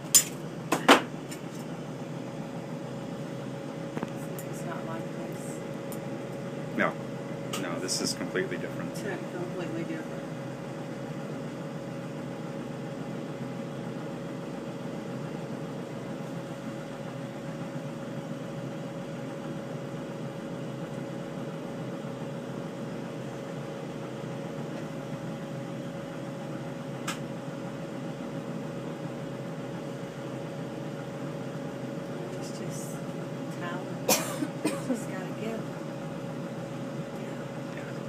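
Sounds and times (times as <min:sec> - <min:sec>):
torch machine hum and hiss: 0:00.0 - 0:38.0.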